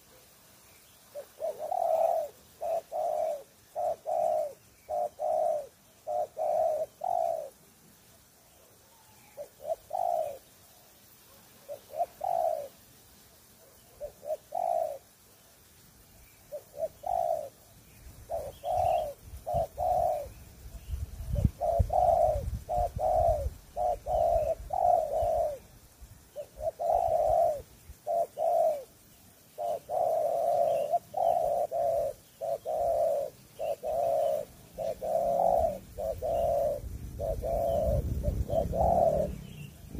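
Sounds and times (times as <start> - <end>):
doves cooing: 0.0 - 0.3, 1.0 - 7.8, 8.6 - 10.7, 11.3 - 12.8, 13.5 - 15.4, 16.4 - 39.9.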